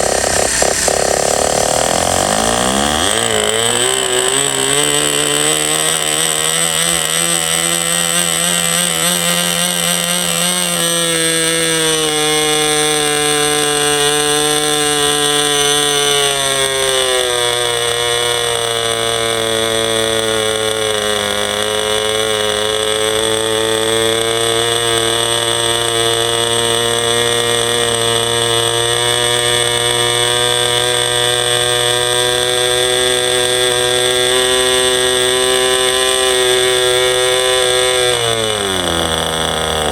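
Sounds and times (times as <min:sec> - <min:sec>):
model glow engine at high revs: 0:00.0 - 0:39.9.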